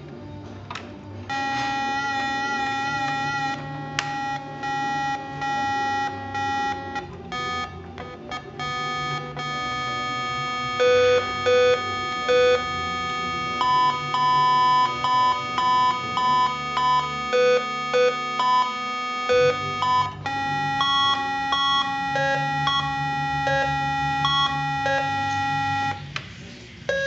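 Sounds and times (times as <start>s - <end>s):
electronic keyboard organ tones: 1.3s - 26.2s.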